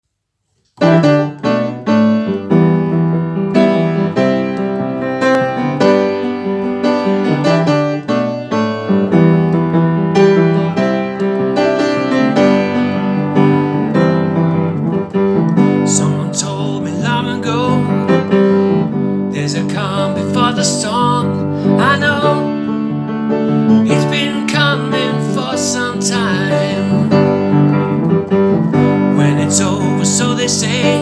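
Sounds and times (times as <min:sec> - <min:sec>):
piano chords with bass line: 0:00.8 - 0:31.0.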